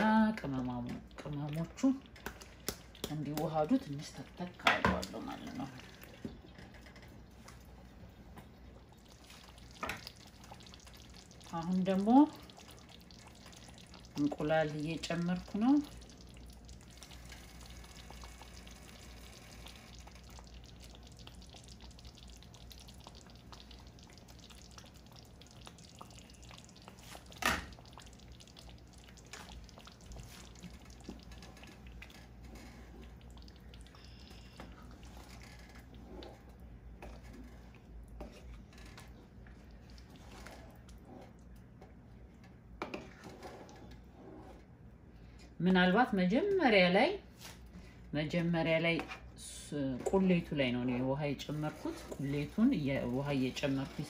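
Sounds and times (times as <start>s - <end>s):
stew bubbling in a pot: 0.0s - 45.1s, 47.7s - 54.0s.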